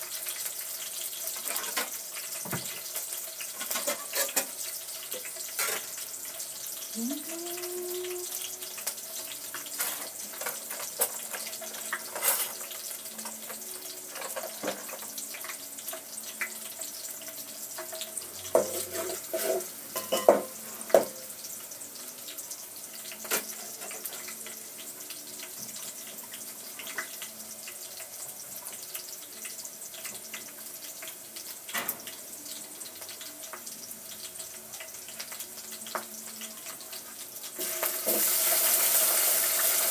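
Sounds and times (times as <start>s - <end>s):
pot hissing on stove: 0.0s - 39.9s.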